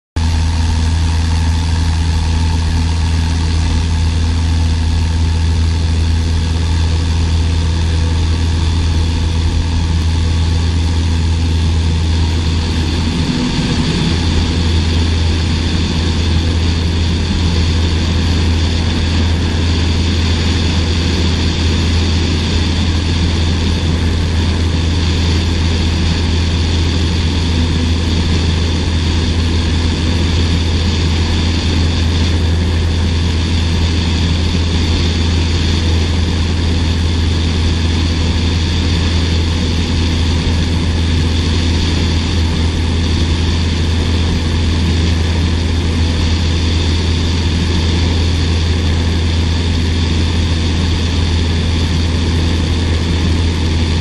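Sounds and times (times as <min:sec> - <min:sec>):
small plane engine and propeller: 0:00.2 - 0:54.0.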